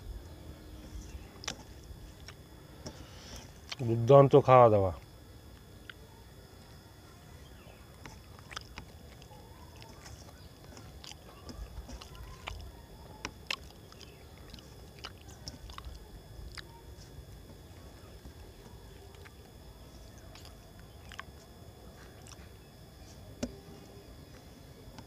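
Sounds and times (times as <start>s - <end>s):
chewing: 0.7s - 3.9s, 7.2s - 25.0s.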